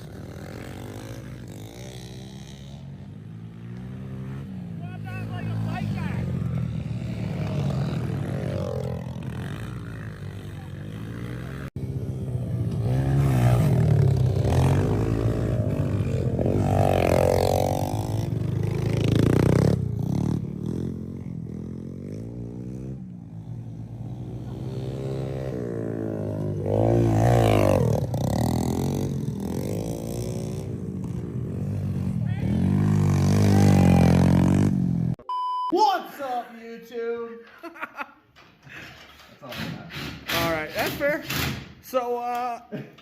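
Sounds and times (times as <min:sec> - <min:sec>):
engine revving: 0:00.0 - 0:35.2.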